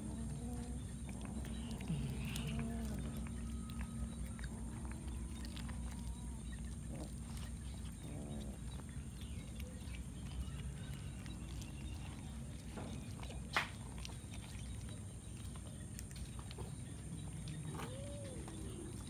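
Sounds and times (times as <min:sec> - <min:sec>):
cats chewing: 0:00.0 - 0:19.0
low background rumble: 0:00.0 - 0:19.0.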